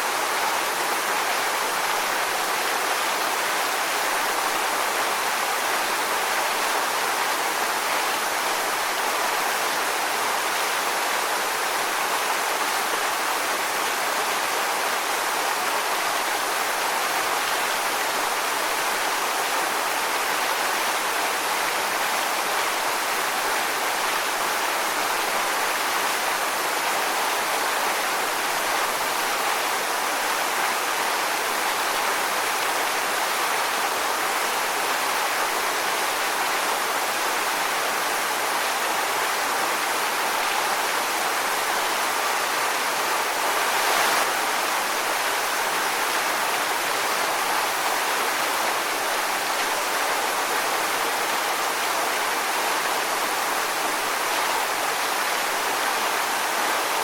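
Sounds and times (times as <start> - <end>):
waterfall rushing on rocks: 0.0 - 57.0.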